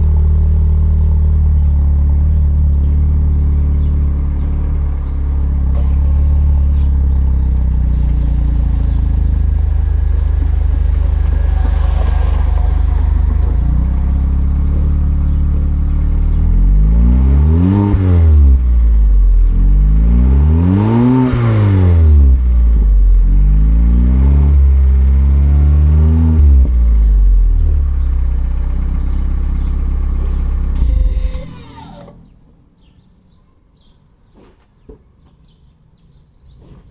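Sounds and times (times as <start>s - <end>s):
car engine idling and revving: 0.0s - 32.6s.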